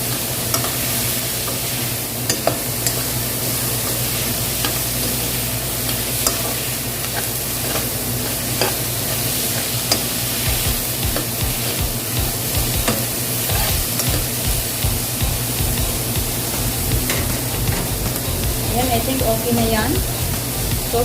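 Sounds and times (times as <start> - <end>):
garlic and onion sizzling in oil: 0.0 - 21.0.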